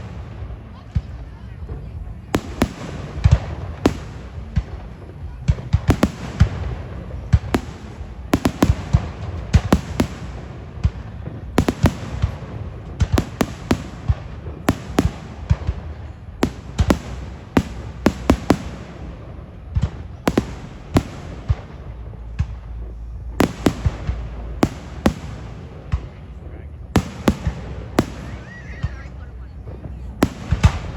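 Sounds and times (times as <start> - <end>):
fireworks bursting: 0.0 - 1.6, 2.2 - 30.9
low rumble: 0.0 - 30.9.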